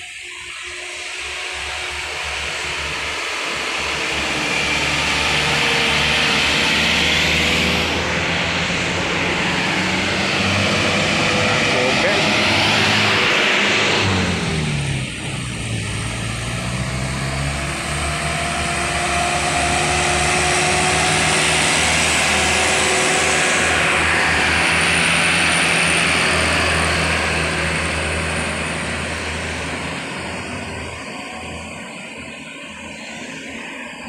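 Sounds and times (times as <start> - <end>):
diesel trucks passing: 1.3 - 32.2.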